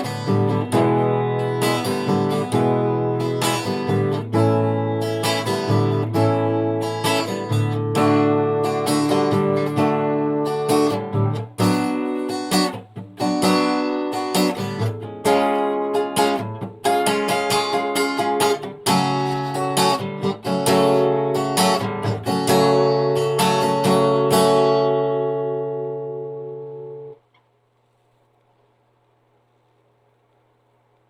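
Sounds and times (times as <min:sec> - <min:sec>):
acoustic guitar strumming chords: 0:00.0 - 0:27.2.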